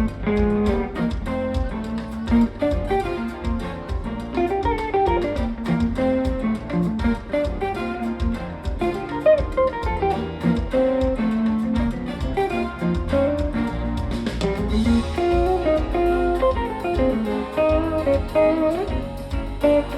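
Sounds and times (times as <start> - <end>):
latin jazz band playing: 0.0 - 19.9
plucked guitar melody: 0.0 - 19.9.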